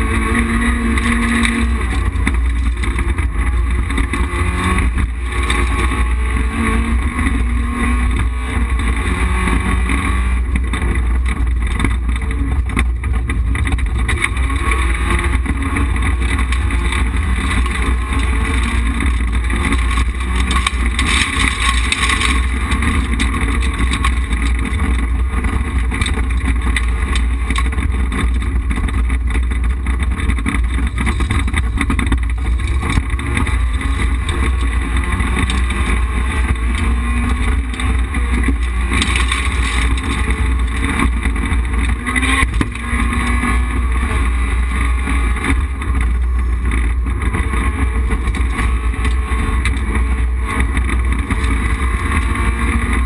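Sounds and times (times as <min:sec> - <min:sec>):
car engine at speed: 0:00.0 - 0:53.0
road noise: 0:00.0 - 0:53.0.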